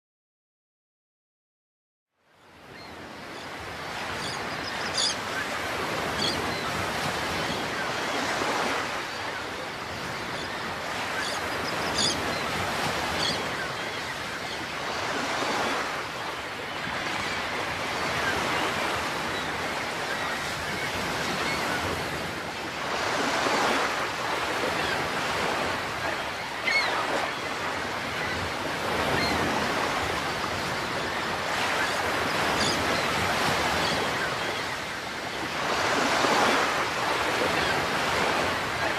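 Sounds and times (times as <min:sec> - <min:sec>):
ocean waves washing and surging: 0:02.2 - 0:38.9.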